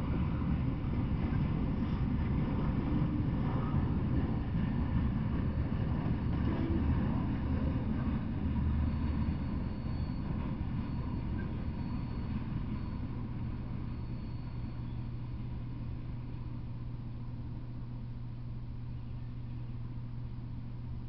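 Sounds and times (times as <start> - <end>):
train wheels rumbling on rail: 0.0 - 17.9
faint high whine: 0.0 - 21.0.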